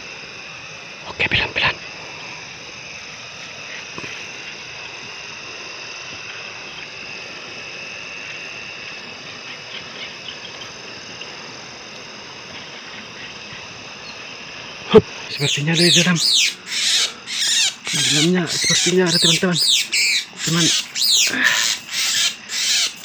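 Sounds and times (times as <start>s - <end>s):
constant hiss: 0.0s - 23.0s
insects trilling: 0.0s - 23.0s.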